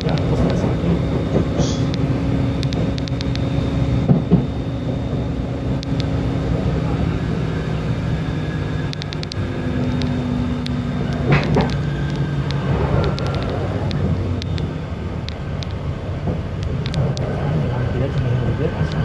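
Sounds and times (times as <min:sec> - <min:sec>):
diesel engine hum: 0:00.0 - 0:19.0
train rolling noise: 0:00.0 - 0:19.0.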